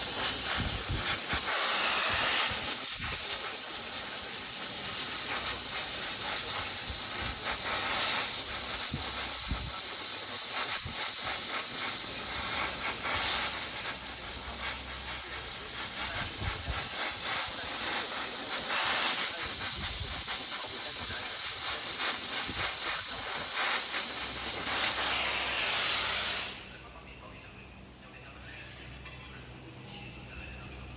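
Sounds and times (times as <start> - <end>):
welding machine hissing: 0.0 - 26.8.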